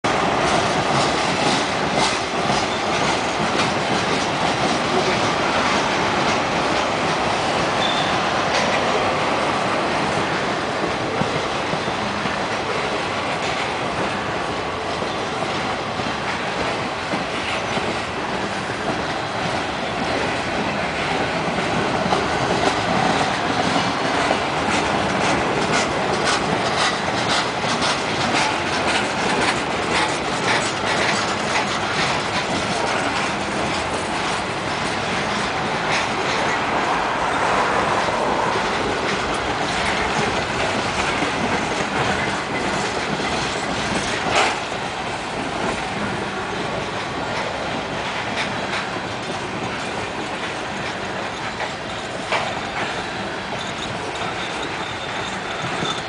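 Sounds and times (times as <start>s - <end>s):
train wheels rumbling on rails: 0.0s - 56.0s
wheels clickety-clack on rail joints: 0.1s - 56.0s.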